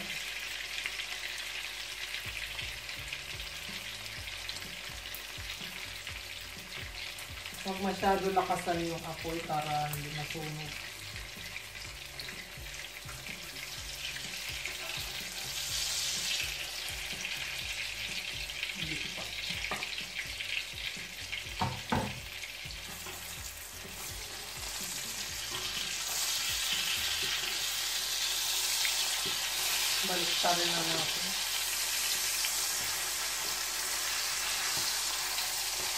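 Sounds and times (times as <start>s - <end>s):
omelette sizzling in oil: 0.0s - 35.9s.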